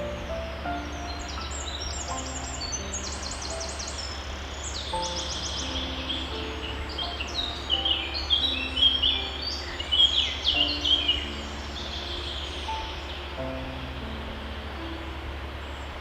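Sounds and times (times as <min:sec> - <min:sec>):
soft held low notes: 0:00.0 - 0:16.0
songbirds chirping: 0:00.0 - 0:16.0
steady low hum: 0:00.0 - 0:16.0.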